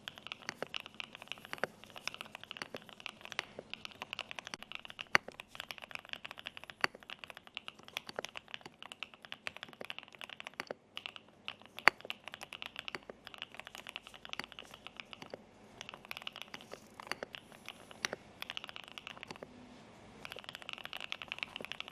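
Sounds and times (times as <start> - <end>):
mechanical keyboard typing: 0.0 - 19.5, 20.2 - 21.9.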